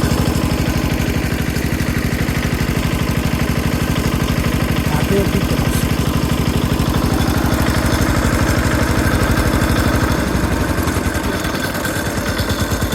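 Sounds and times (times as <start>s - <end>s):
engine chugging: 0.0s - 12.9s.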